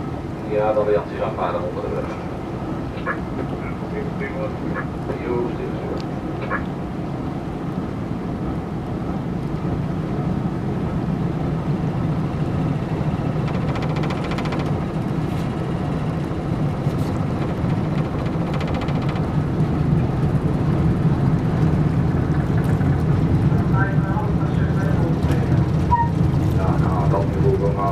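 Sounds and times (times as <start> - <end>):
barge engine drone: 0.0 - 27.9.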